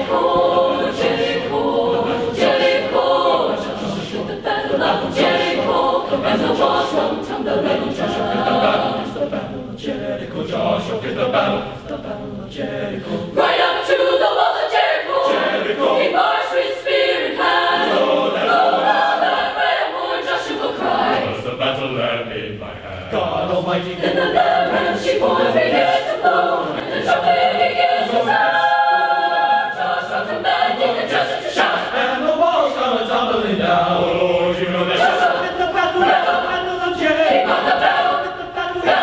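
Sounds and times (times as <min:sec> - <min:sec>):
mixed choir singing: 0:00.0 - 0:39.0.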